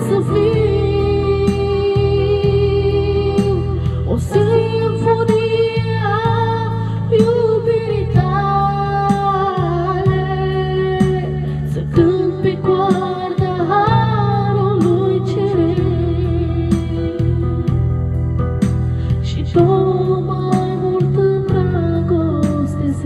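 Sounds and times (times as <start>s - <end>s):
karaoke backing music: 0.0s - 23.0s
woman singing into microphone: 0.0s - 23.0s.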